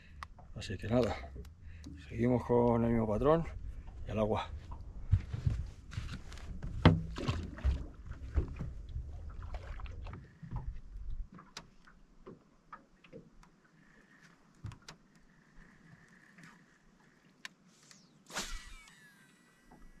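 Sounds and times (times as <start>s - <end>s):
water splashing around a boat: 0.0s - 17.8s.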